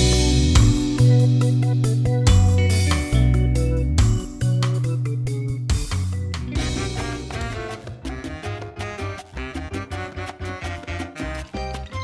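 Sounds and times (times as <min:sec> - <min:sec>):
latin music with guitar: 0:00.0 - 0:12.0.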